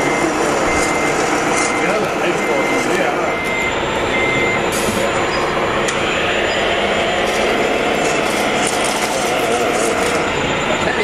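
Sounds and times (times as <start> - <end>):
constant din: 0.0 - 11.0
simulated diesel engine running: 0.0 - 11.0.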